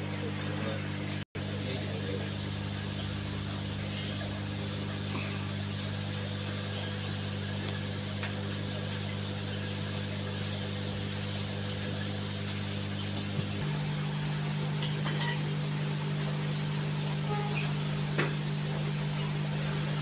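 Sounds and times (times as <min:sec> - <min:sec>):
aquarium pumps humming: 0:00.0 - 0:20.0.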